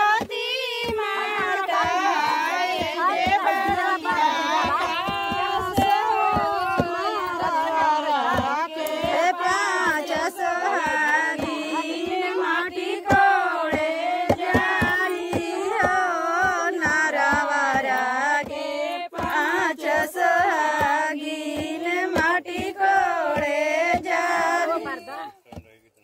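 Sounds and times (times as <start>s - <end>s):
women singing folk song: 0.0s - 25.5s.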